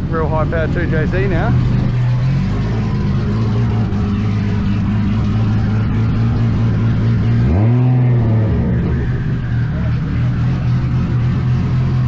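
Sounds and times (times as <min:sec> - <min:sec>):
car engine running and revving: 0:00.0 - 0:12.0.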